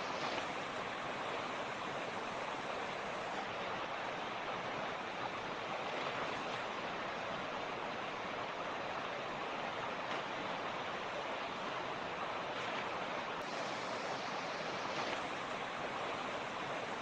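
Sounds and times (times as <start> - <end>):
creek water splashing over rocks: 0.0 - 17.0.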